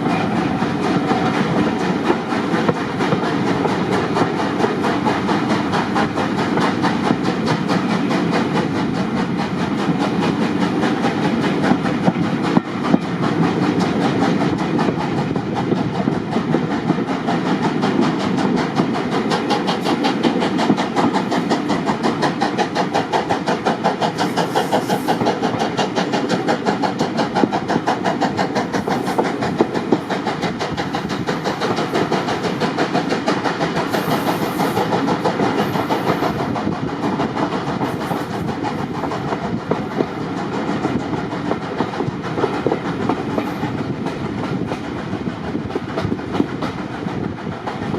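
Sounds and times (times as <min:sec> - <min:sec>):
train running rhythmic beats: 0:00.0 - 0:47.9.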